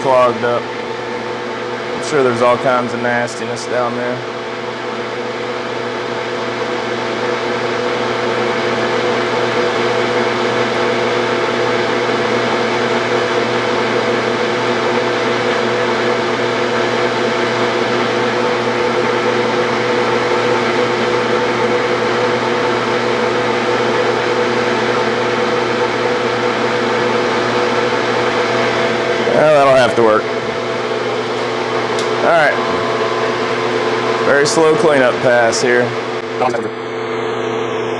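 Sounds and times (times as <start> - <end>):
metal-turning lathe whining: 0.0 - 37.6.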